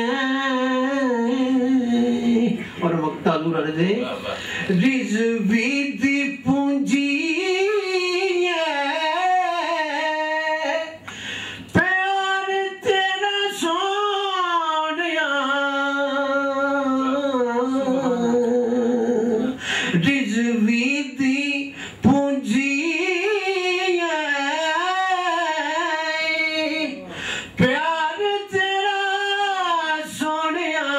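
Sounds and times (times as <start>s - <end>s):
man singing unaccompanied: 0.0s - 2.7s, 4.6s - 11.0s, 11.7s - 30.9s.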